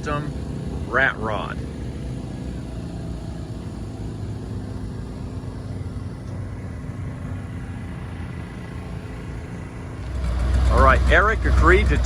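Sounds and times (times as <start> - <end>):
engine idling low rumble: 0.0 - 12.0.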